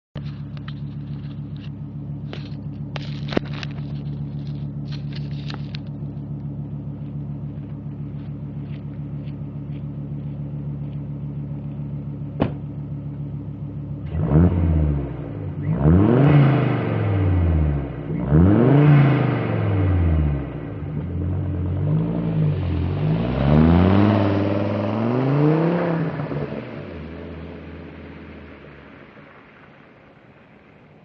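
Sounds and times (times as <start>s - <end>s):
car engine idling and revving: 0.2s - 31.0s.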